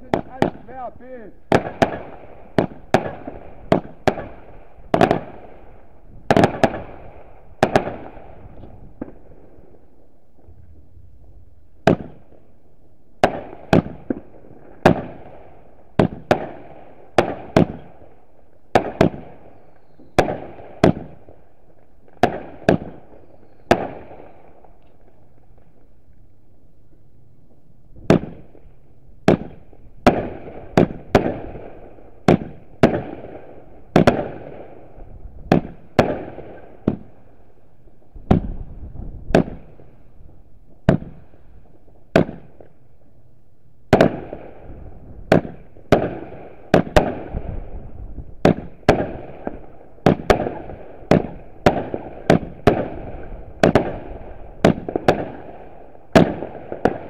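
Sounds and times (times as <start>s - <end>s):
fireworks bangs echoing: 0.0s - 10.5s, 11.8s - 12.5s, 13.2s - 25.9s, 28.0s - 42.8s, 43.9s - 57.0s.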